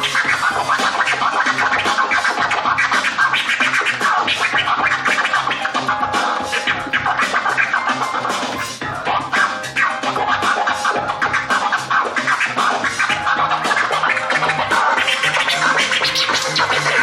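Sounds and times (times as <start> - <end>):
steady bass beat: 0.0 - 17.0
turntable scratching: 0.0 - 17.0.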